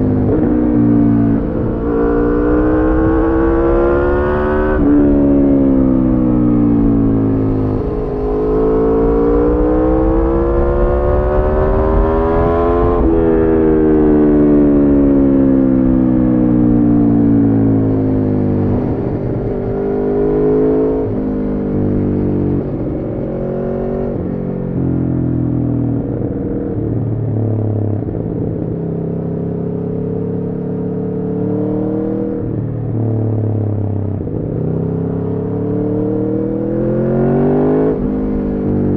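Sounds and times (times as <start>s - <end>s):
motorcycle engine revving: 0.0s - 24.8s, 28.0s - 38.9s.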